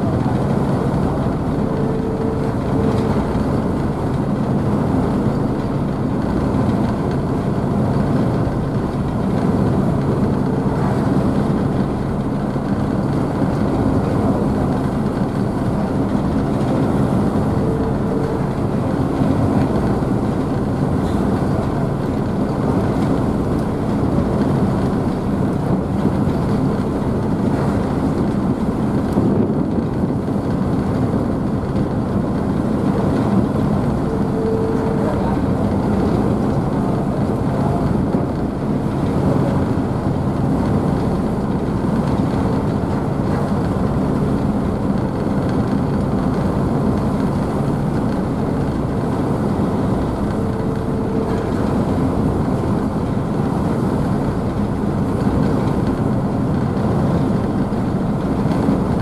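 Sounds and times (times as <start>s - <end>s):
ship engines running: 0.0s - 59.0s.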